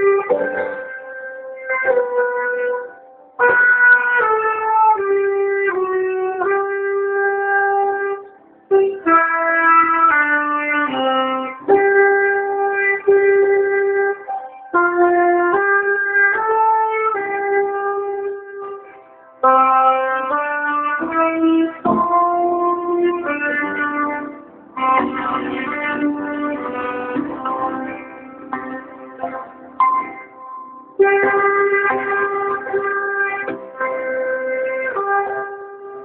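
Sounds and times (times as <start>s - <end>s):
wind instrument melody: 0.0s - 36.0s.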